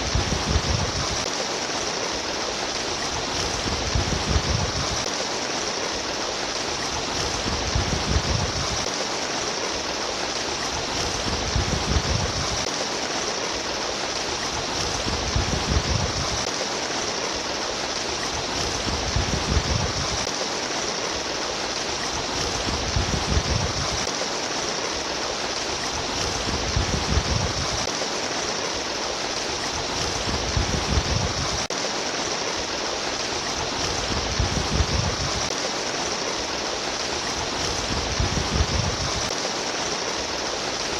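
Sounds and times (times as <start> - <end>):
babbling stream: 0.0 - 40.9.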